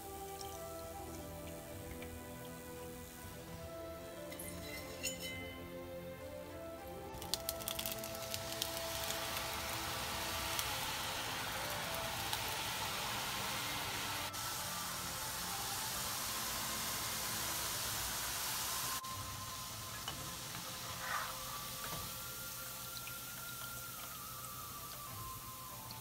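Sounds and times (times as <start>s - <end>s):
dough deep-frying in hot oil: 0.0s - 26.0s.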